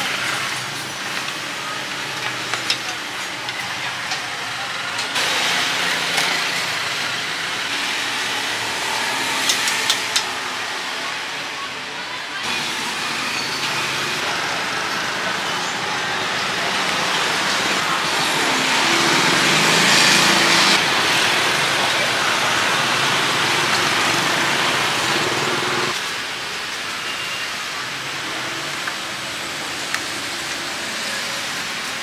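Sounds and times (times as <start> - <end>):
street traffic noise: 0.0 - 32.0.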